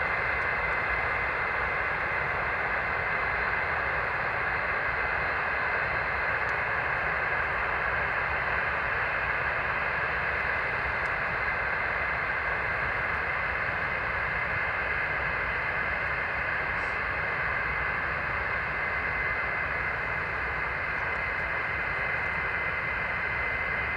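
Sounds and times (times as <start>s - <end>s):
faint high whine: 0.0s - 23.9s
jet engine roar: 0.0s - 23.9s.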